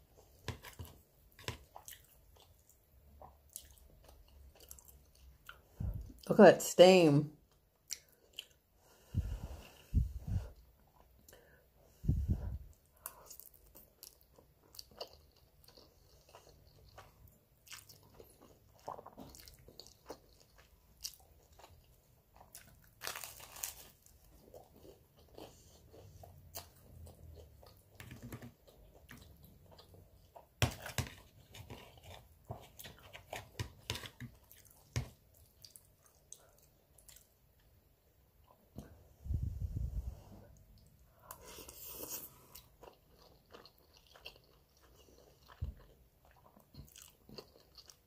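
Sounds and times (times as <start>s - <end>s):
chewing with mouth clicks: 0.3s - 5.8s, 7.5s - 8.6s, 12.7s - 37.8s, 40.6s - 48.0s.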